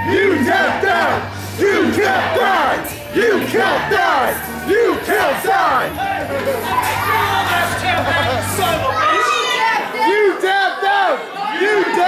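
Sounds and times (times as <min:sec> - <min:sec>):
crowd shouting and cheering: 0:00.0 - 0:12.0.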